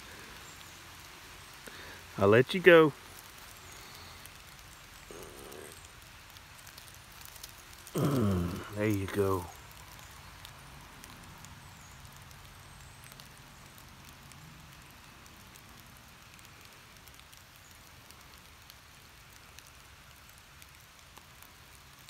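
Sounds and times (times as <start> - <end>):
steady hiss: 0.0 - 22.0
tiny ticks and crackles: 0.0 - 22.0.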